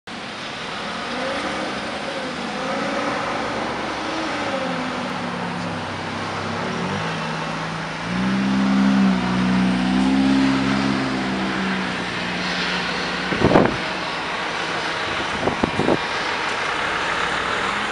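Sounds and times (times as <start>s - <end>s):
diesel truck engine pulling away: 0.6s - 17.9s.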